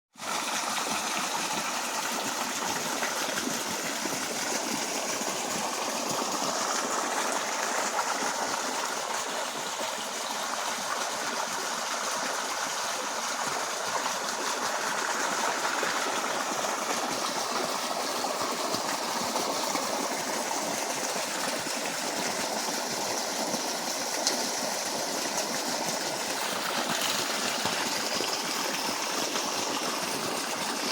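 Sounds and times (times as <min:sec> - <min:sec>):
water rushing: 0:00.2 - 0:30.9.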